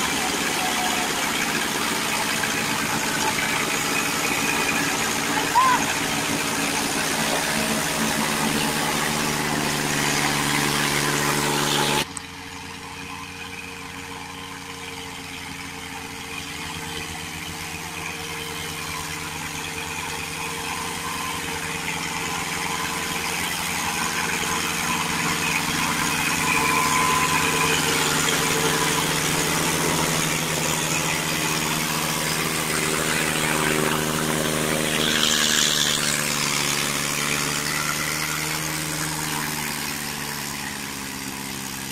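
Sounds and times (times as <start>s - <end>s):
tractor diesel engines under load: 0.0s - 41.9s.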